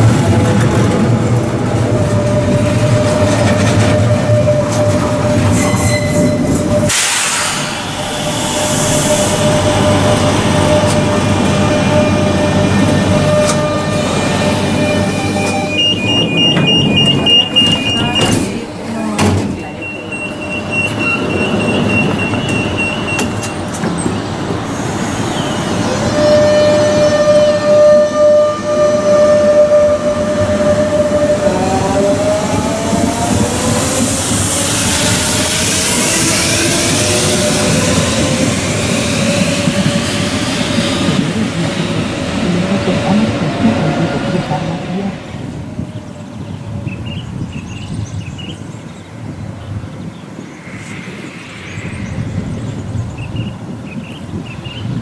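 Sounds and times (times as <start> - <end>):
electric train rumbling with whine: 0.0 - 55.0.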